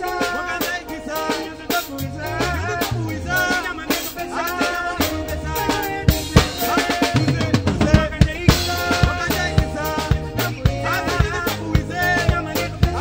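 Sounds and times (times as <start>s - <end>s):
live band music: 0.0s - 13.0s
men singing: 0.0s - 13.0s
drum kit hits: 0.6s - 13.0s.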